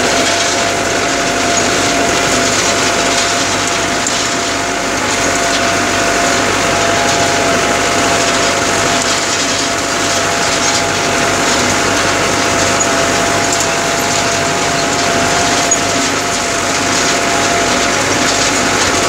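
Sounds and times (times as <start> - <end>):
high whine: 0.0 - 19.0
tractor diesel engine running: 0.0 - 19.0.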